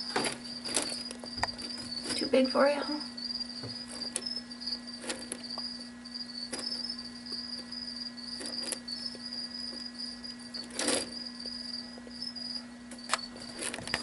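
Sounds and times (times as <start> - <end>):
cricket chirping: 0.0 - 14.0
low steady hum: 0.0 - 14.0.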